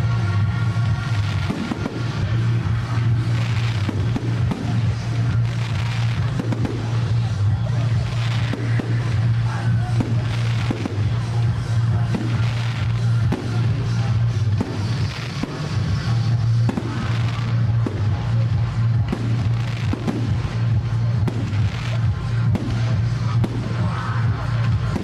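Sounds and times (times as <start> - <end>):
music: 0.0 - 25.0.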